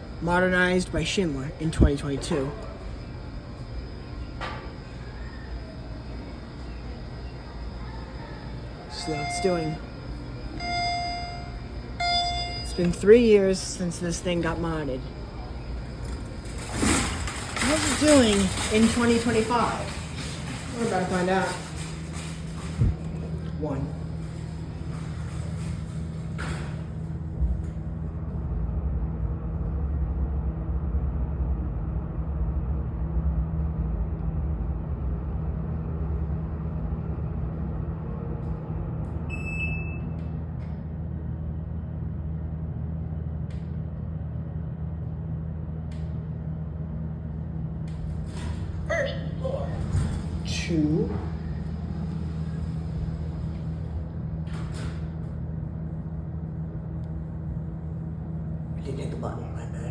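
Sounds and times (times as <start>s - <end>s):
elevator rumble and hum: 0.0s - 59.9s.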